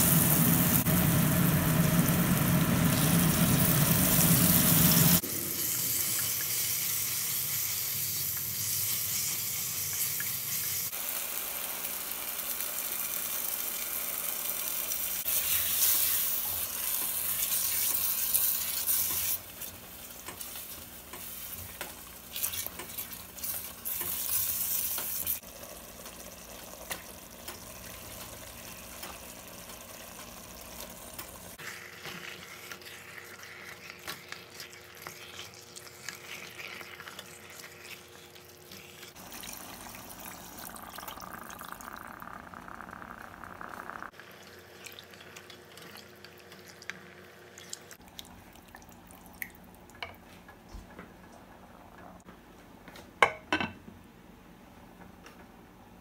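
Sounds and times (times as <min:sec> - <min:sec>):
food sizzling in a pot: 0:00.0 - 0:47.6.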